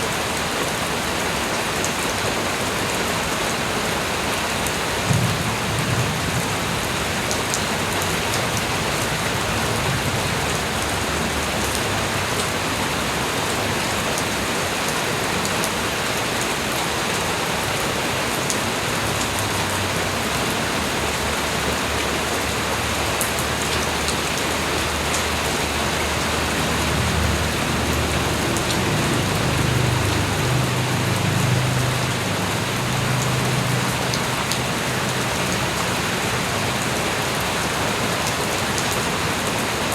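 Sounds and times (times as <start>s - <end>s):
steady rain falling: 0.0s - 39.9s
raindrops ticking: 4.6s - 15.9s, 18.3s - 39.1s.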